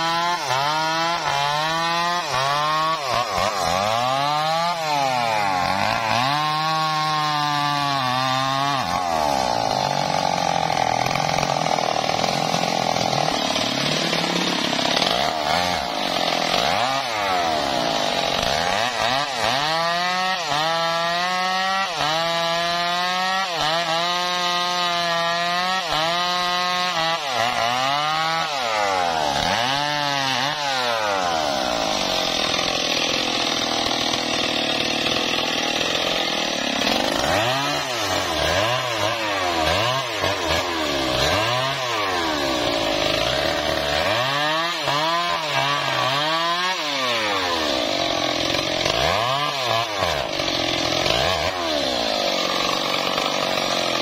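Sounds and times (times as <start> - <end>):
chainsaw cutting through log: 0.0 - 54.0.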